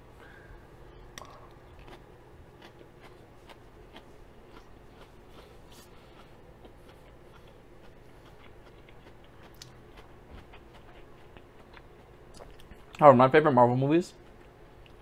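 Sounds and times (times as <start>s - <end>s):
person chewing crunchy food: 0.9s - 13.0s.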